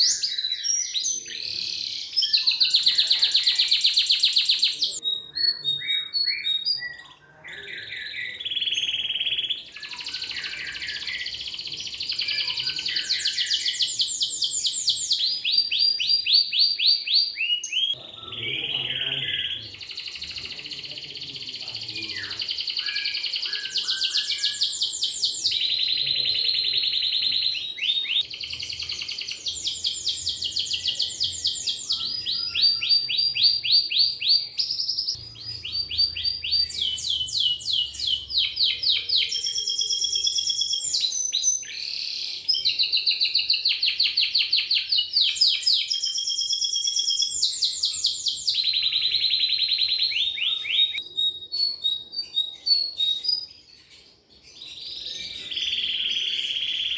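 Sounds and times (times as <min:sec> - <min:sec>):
canary singing trills: 0:00.0 - 0:56.9.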